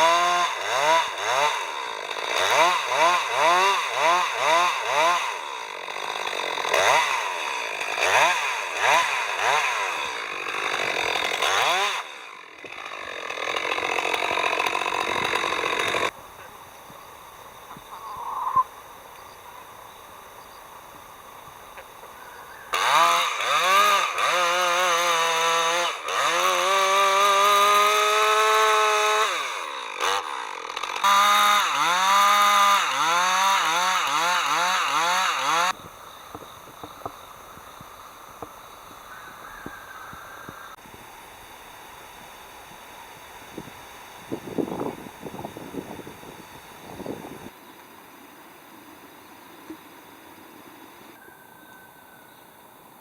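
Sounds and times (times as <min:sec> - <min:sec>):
chainsaw cutting log: 0:00.0 - 0:19.8, 0:20.7 - 0:47.6.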